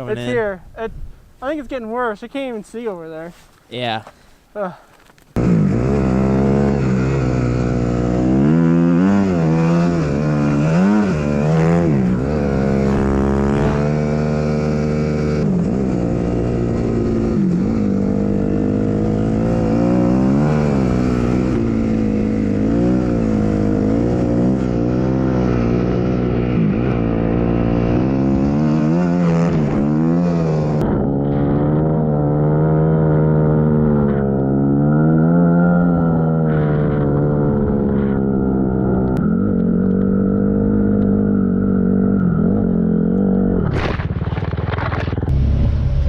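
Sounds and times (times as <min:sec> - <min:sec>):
snow bike engine revving: 0:05.4 - 0:46.0.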